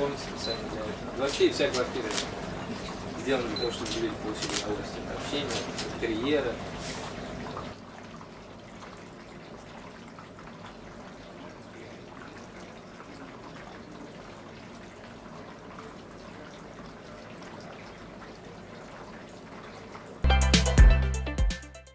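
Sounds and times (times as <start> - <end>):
water trickling and dripping: 0.0 - 20.2.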